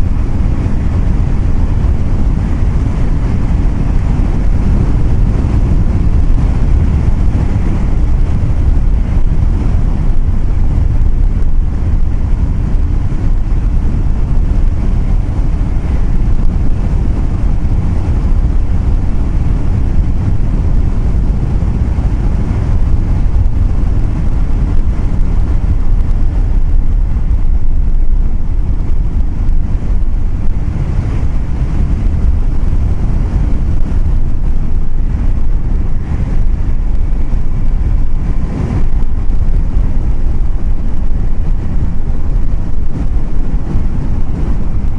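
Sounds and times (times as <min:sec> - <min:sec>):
road noise: 0:00.0 - 0:44.9
vehicle rumble: 0:00.0 - 0:44.9
wind buffeting microphone: 0:00.0 - 0:44.9.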